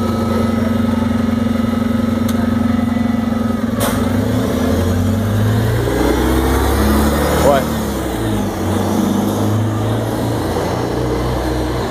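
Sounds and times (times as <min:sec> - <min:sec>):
bus engine idling: 0:00.0 - 0:11.9.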